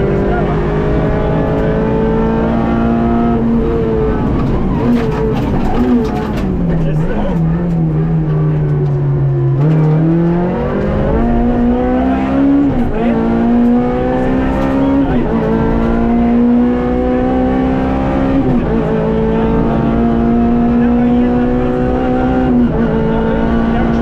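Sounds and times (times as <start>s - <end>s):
car engine accelerating and upshifting: 0.0s - 24.0s.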